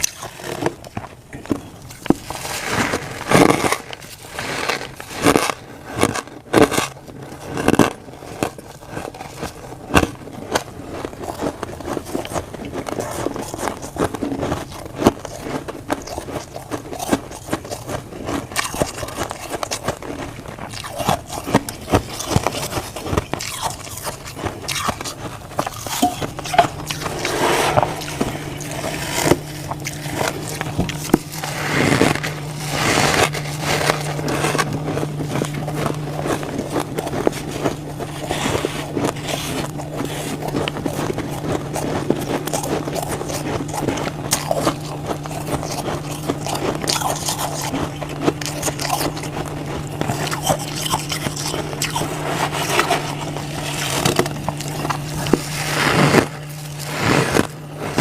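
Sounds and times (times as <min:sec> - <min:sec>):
frost crunching and crackling: 0:00.0 - 0:58.0
low steady hum: 0:00.0 - 0:58.0.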